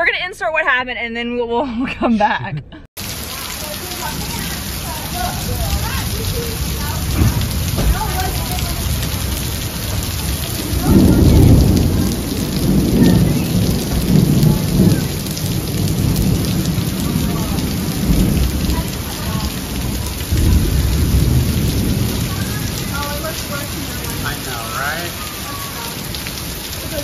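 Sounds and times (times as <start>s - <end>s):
heavy rain falling: 3.0s - 27.0s
low thunder rumbling: 3.0s - 27.0s.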